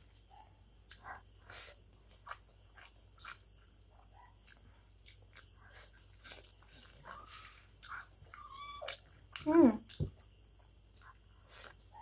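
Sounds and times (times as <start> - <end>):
chewing and lip smacks: 0.8 - 12.0.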